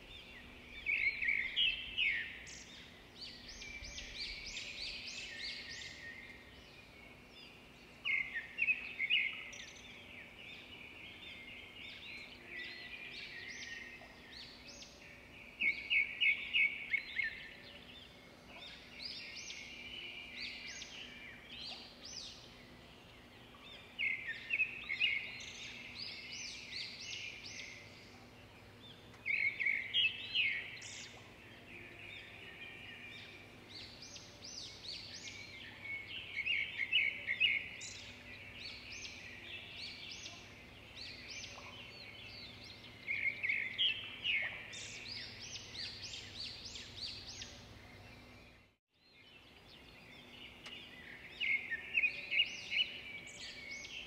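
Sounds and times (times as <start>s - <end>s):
birds chirping loudly: 0.0s - 54.0s.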